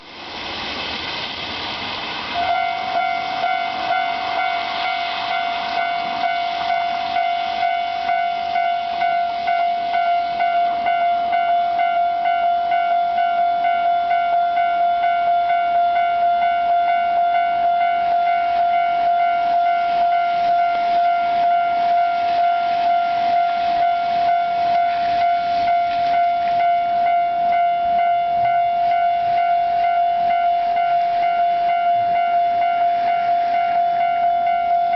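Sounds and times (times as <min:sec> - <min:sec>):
level crossing alarm ringing: 0:02.4 - 0:34.9.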